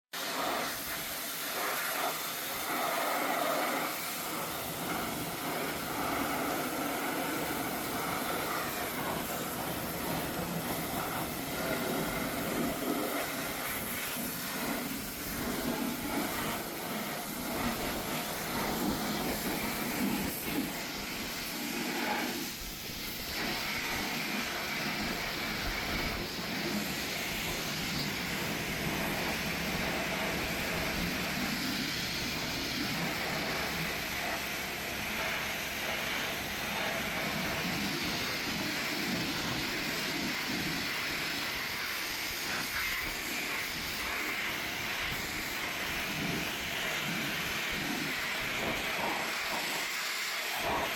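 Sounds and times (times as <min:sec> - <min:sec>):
car wash equipment hissing: 0:00.1 - 0:50.9.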